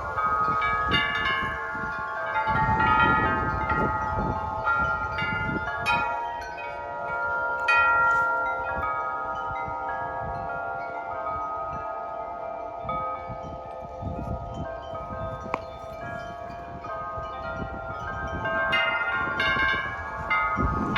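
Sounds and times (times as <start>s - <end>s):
wind chimes ringing: 0.0s - 20.9s
wind rumble on microphone: 0.0s - 20.9s.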